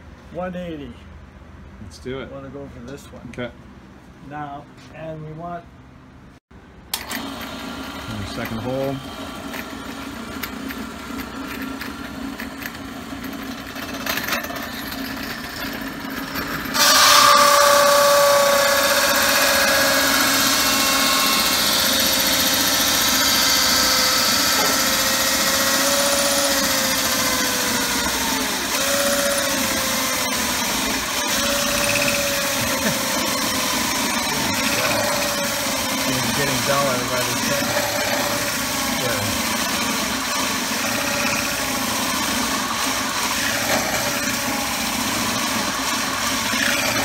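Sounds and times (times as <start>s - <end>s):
drill press motor running: 6.9s - 47.0s
hole saw cutting cymbal: 8.1s - 47.0s.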